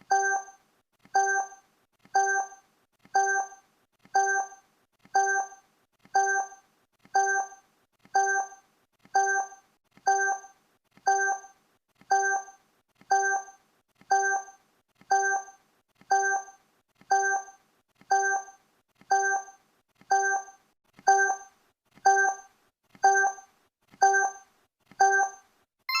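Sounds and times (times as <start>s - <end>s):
electronic countdown blips: 0.0s - 0.6s, 1.2s - 1.6s, 2.2s - 2.6s, 3.2s - 3.6s, 4.2s - 4.6s, 5.2s - 5.6s, 6.2s - 6.6s, 7.2s - 7.6s, 8.2s - 8.6s, 9.2s - 26.0s.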